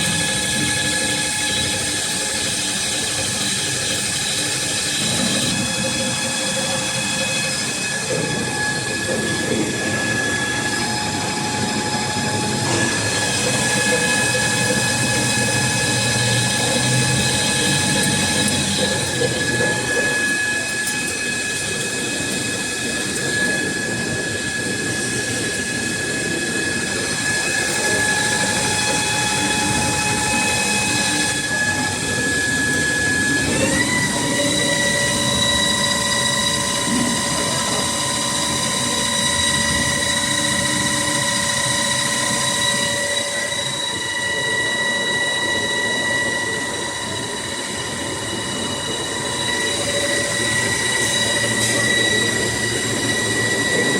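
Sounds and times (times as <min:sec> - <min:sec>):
lathe spindle whine: 0:00.0 - 0:53.9.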